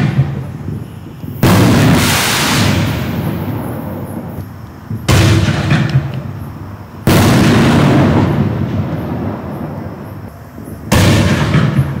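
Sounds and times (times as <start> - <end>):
firework booms with rolling echo: 0.0 - 12.0.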